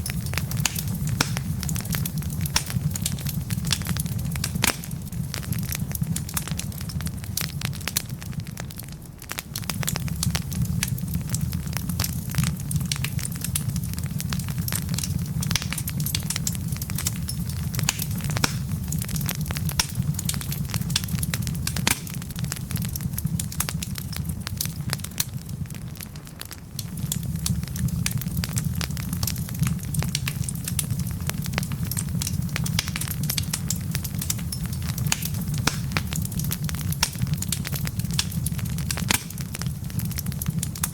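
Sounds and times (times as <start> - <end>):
low rumble of flame: 0.0 - 40.9
wood fire crackling and popping: 0.0 - 40.9.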